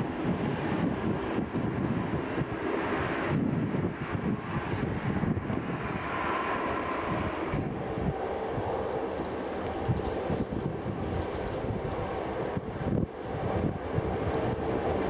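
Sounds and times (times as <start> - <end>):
jet engine rumble: 0.0 - 15.0
jet engine whine: 0.0 - 15.0.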